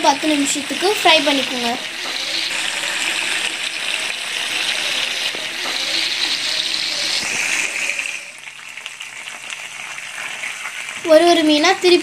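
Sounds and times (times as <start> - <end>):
fish frying in oil: 0.0 - 12.0.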